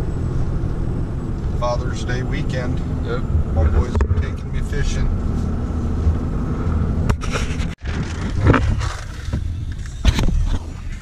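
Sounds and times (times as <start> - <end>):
vehicle cabin rumble: 0.0 - 11.0.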